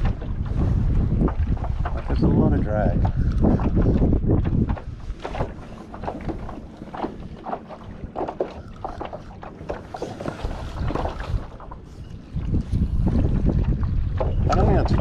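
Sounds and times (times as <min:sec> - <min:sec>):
water slapping kayak hull: 0:00.0 - 0:15.0
wind buffeting microphone: 0:00.0 - 0:15.0.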